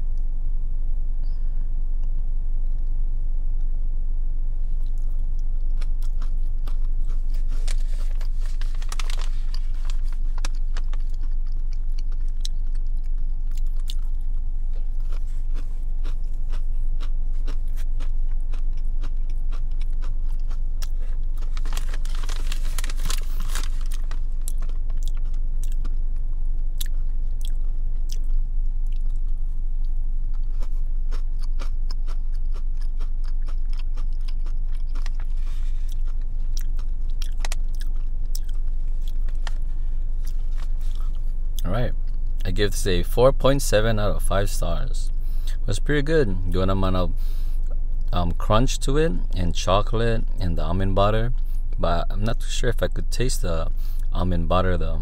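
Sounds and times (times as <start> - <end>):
steady low hum: 0.0 - 55.0
crunching and chewing granola: 4.7 - 55.0.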